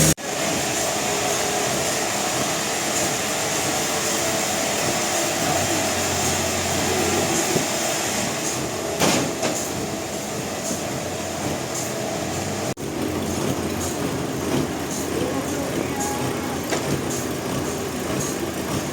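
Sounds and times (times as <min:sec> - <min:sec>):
sawmill machinery running: 0:00.0 - 0:18.9.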